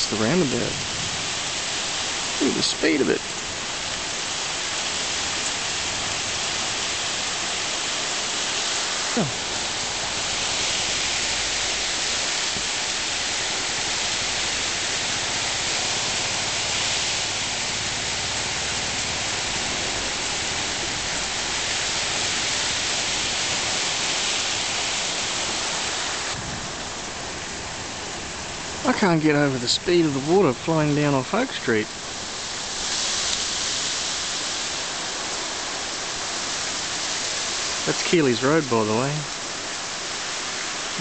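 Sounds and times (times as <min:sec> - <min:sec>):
rushing floodwater: 0:00.0 - 0:41.0
torrential rain pouring: 0:00.0 - 0:41.0.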